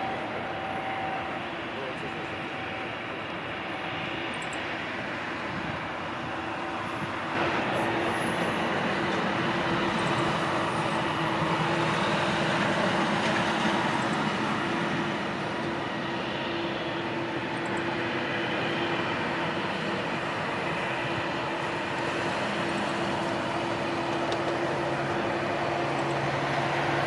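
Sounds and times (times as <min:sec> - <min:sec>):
jet airliner taking off: 0:00.0 - 0:27.0.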